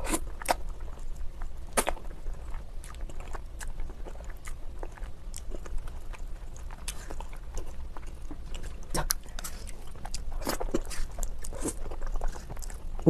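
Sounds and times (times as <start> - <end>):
person chewing noodles: 0.0 - 13.0.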